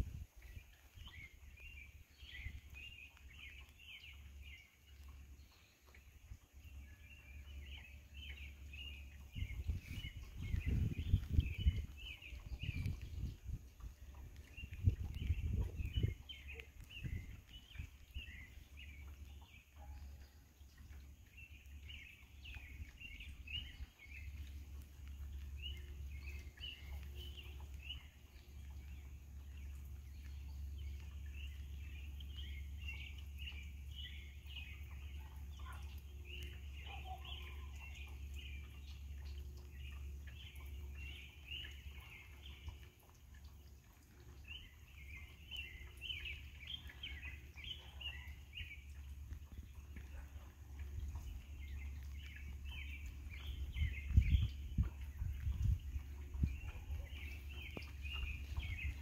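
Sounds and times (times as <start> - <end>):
small birds chirping: 0.0 - 59.0
steady low rumble: 0.0 - 59.0.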